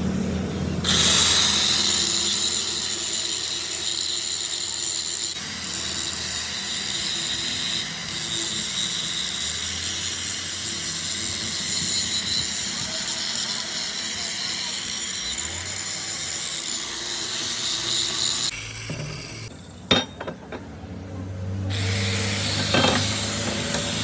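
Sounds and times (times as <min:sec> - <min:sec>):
power tool whining on metal: 0:00.8 - 0:19.8, 0:21.7 - 0:24.0.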